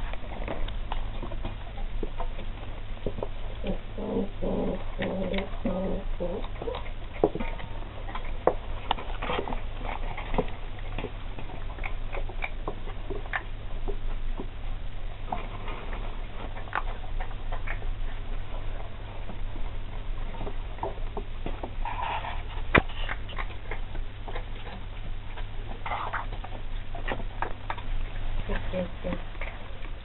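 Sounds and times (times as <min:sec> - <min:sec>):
puppies crunching bones: 0:00.0 - 0:30.0.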